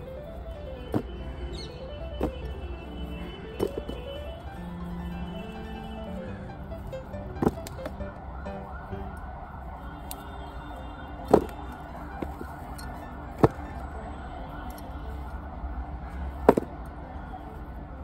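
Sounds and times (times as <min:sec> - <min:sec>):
soft wavering background music: 0:00.0 - 0:18.0.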